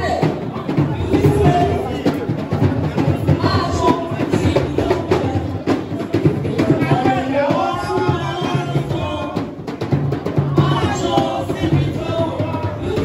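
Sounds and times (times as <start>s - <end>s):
person singing: 0.0s - 9.6s, 10.2s - 13.0s
dance music with heavy drums: 0.0s - 13.0s.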